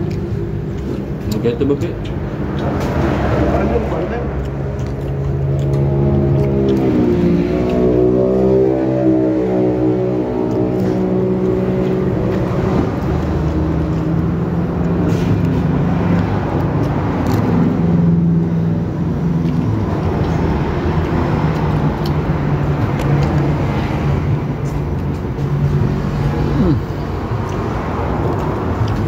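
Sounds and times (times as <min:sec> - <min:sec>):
traffic passing close by: 0:00.0 - 0:29.0.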